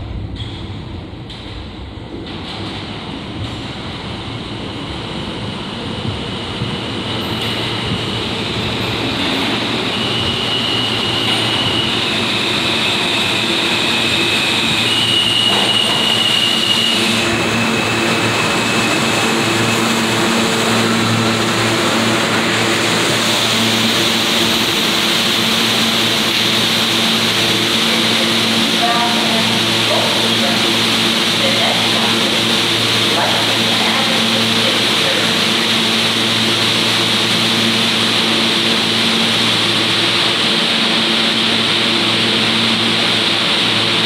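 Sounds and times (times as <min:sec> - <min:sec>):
low hum of train equipment: 0:00.0 - 0:44.0
train wheels rumbling on rails: 0:00.0 - 0:44.0.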